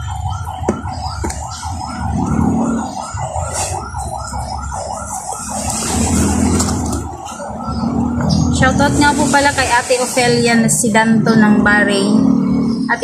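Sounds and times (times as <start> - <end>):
siren warbling: 0.0 - 13.0.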